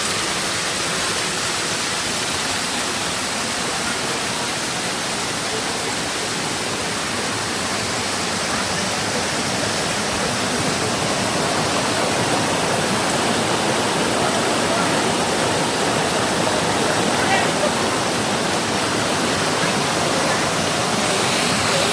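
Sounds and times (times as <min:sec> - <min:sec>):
rushing water: 0:00.0 - 0:21.9.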